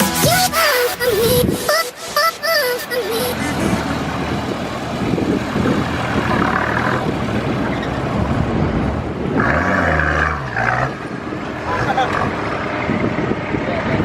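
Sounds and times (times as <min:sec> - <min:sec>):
road noise: 0:00.0 - 0:14.0
vehicle engine: 0:00.0 - 0:14.0.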